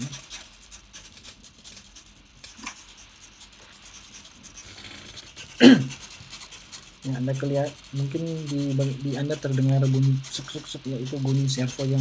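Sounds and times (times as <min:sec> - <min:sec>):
servo motors ticking: 0:00.0 - 0:12.0.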